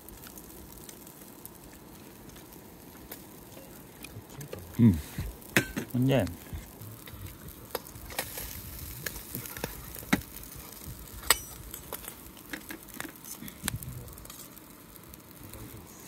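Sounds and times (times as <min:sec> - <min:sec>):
fish sizzling on grill: 0:00.0 - 0:16.0
wood fire crackling: 0:00.0 - 0:16.0.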